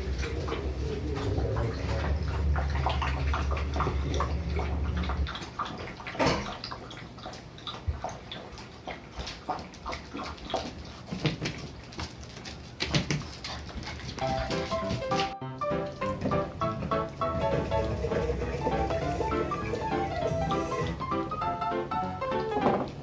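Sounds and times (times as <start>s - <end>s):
puppies scuffling: 0.0s - 23.0s.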